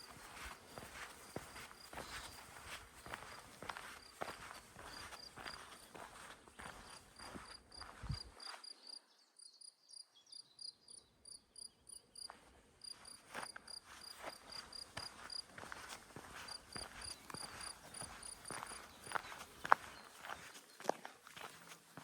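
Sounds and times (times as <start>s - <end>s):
soft footsteps: 0.0s - 8.6s, 12.3s - 22.0s.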